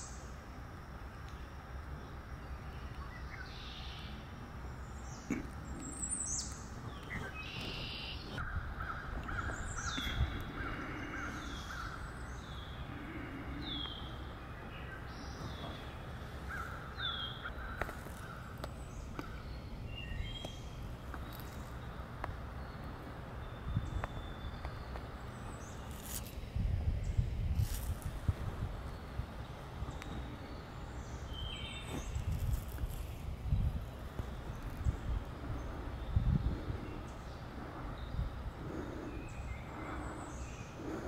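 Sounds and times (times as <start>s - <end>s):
birds calling: 0.0s - 0.4s, 1.2s - 41.0s.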